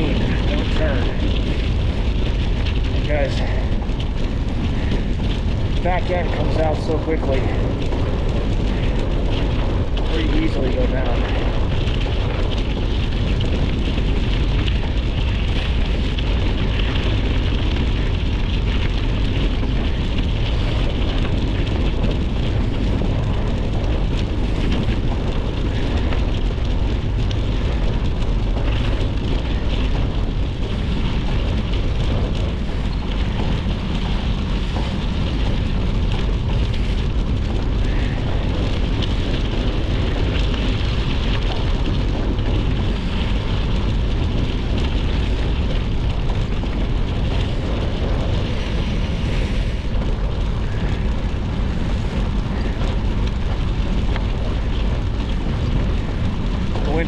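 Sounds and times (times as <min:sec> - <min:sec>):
bike tyres crackling on gravel: 0:00.0 - 0:57.0
wind rushing over microphone: 0:00.0 - 0:57.0.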